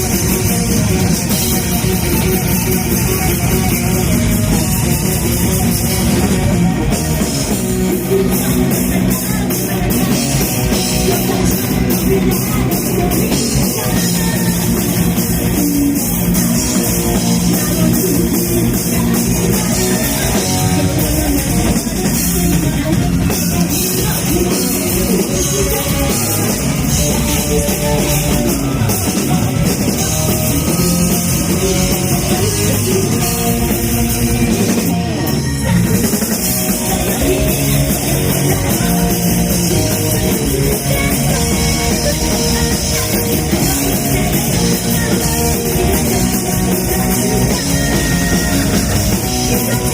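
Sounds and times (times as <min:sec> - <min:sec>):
drum kit: 0:00.0 - 0:49.9
electric guitars: 0:00.0 - 0:49.9
live metal band playing: 0:00.0 - 0:49.9.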